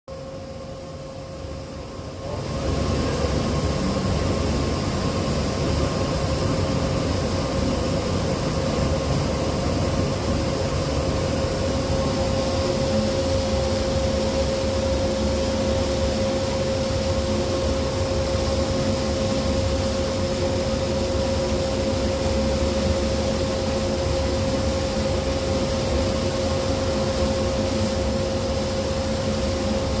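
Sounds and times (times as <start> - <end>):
laser cutter whirring and hissing: 0.1 - 30.0.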